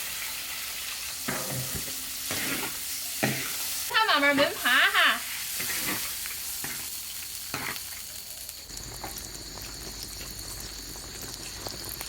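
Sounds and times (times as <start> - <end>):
food sizzling and bubbling in a pan: 0.0 - 12.0.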